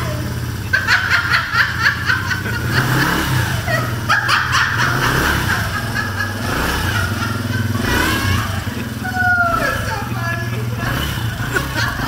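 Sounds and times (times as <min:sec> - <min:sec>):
quad engine humming: 0:00.0 - 0:12.0
person laughing: 0:00.7 - 0:12.0.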